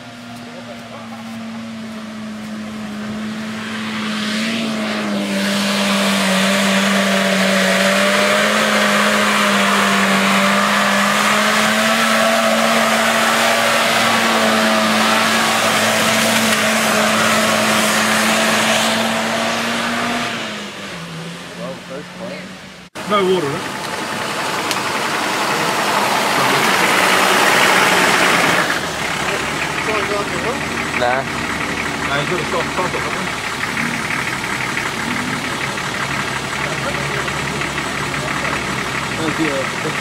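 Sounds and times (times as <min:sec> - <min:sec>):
engine at high revs: 0:00.0 - 0:40.0
tyres churning through mud: 0:00.0 - 0:40.0.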